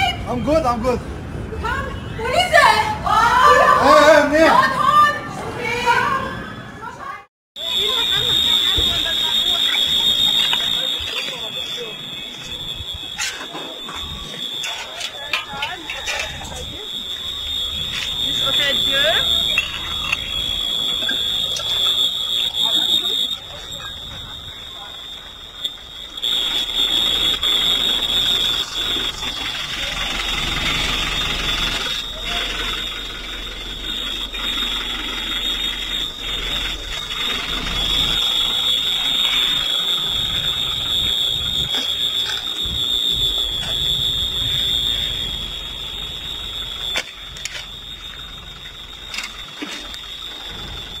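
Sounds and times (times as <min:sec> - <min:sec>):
high-pitched electronic alarm tone: 0:07.6 - 0:51.0.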